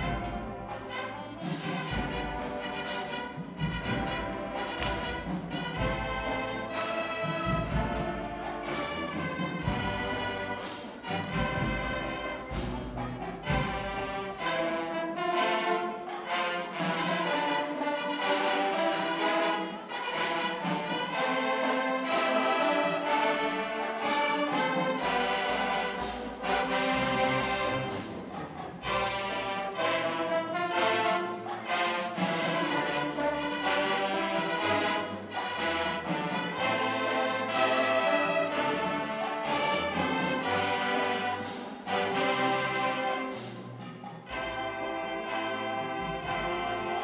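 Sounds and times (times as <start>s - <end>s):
marching band brass chords: 0.0s - 47.0s.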